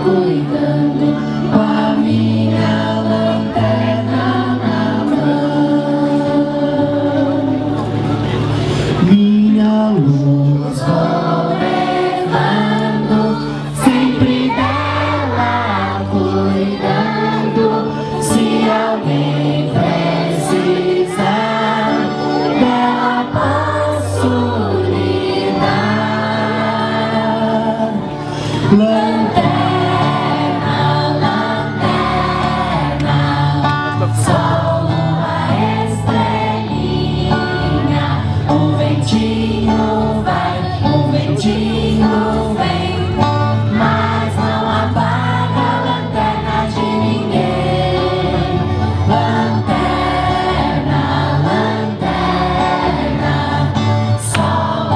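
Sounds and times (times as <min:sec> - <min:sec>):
group of voices singing: 0:00.0 - 0:54.9.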